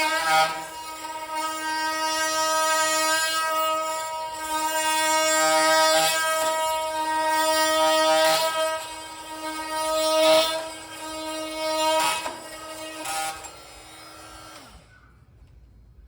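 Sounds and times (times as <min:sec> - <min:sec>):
oscillating multi-tool humming: 0:00.0 - 0:15.1.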